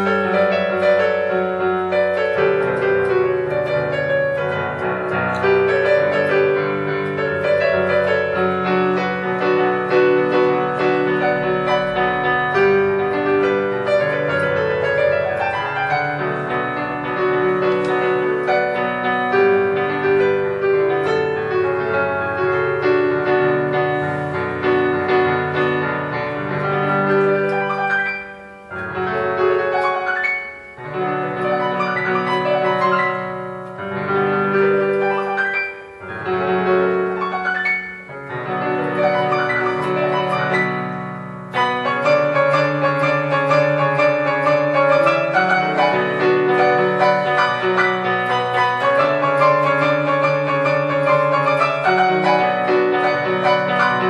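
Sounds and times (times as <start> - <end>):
electronic keyboard chords and melody: 0.0 - 54.0.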